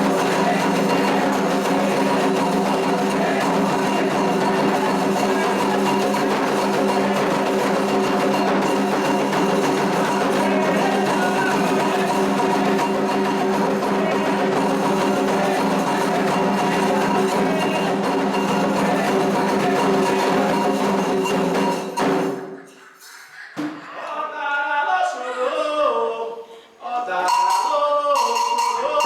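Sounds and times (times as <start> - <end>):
drums and percussion playing: 0.0 - 23.9, 27.1 - 29.0.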